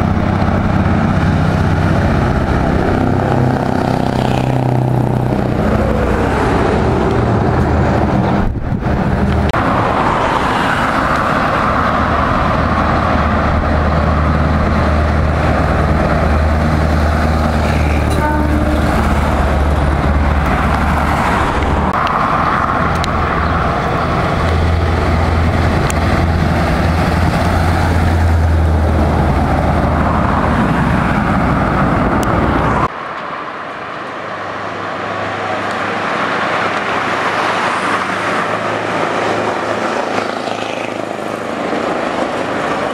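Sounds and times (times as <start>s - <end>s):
loud truck engines driving past: 0.0s - 42.9s.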